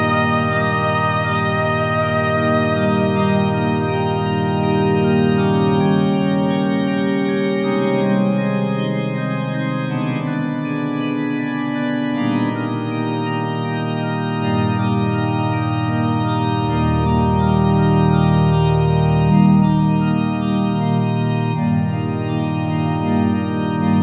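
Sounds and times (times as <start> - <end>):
sustained organ chords: 0.0 - 24.0.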